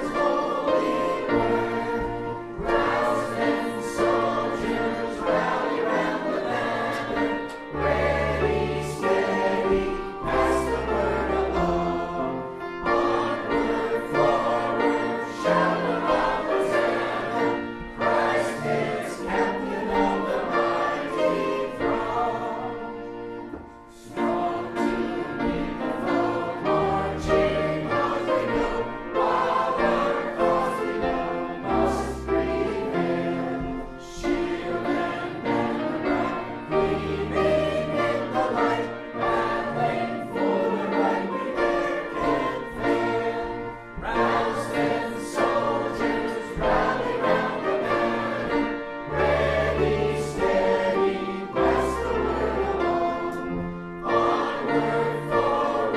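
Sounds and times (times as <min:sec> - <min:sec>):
choir singing a hymn: 0:00.0 - 0:55.9
instrumental accompaniment: 0:00.0 - 0:55.9.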